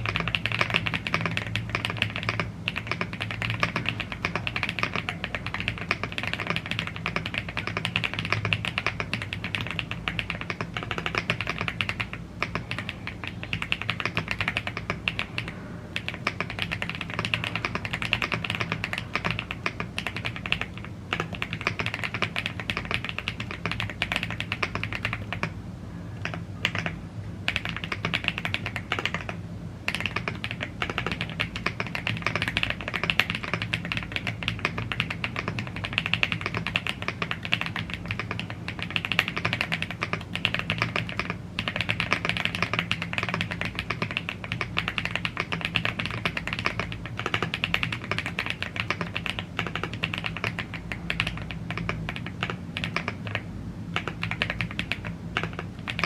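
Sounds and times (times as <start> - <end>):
mechanical keyboard typing: 0.0 - 25.6, 26.2 - 56.0
faint low hum: 0.0 - 56.0.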